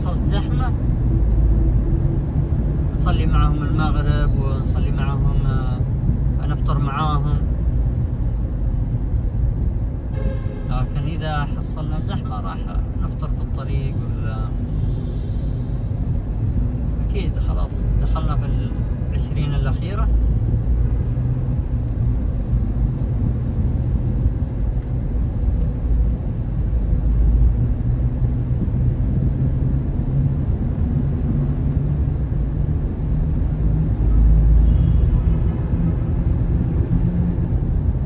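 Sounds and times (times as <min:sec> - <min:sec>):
car interior road rumble: 0:00.0 - 0:38.0.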